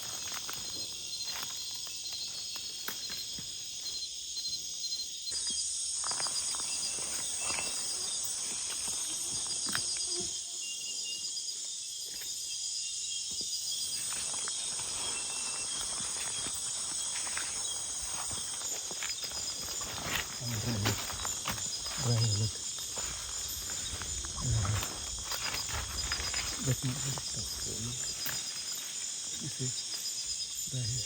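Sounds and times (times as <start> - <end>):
insect chorus trilling: 0.0 - 31.0.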